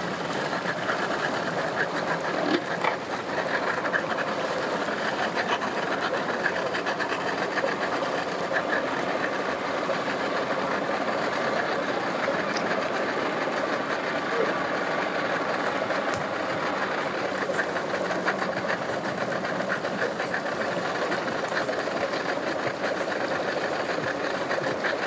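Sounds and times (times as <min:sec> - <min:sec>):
outboard motors clattering drone: 0:00.0 - 0:25.0.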